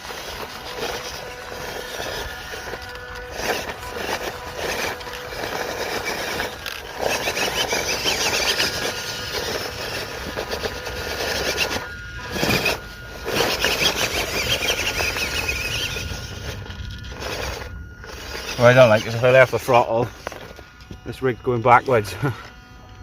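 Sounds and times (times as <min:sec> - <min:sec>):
small electric motor whining: 0:00.0 - 0:23.0.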